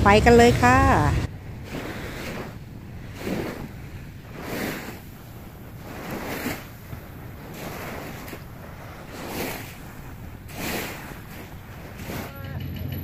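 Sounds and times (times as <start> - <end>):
gentle surf: 0.0 - 13.0
wind on microphone: 0.0 - 13.0
soft swish: 0.4 - 12.4.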